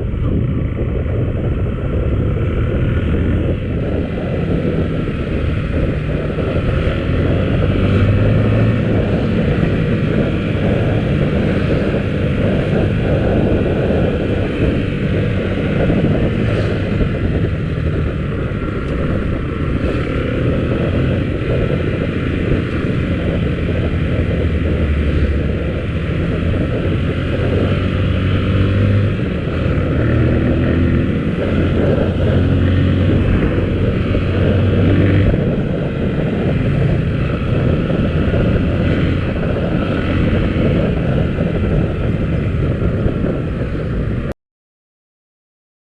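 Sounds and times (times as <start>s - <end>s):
motorcycle engine running: 0.0s - 44.3s
steady rushing noise: 0.0s - 44.3s.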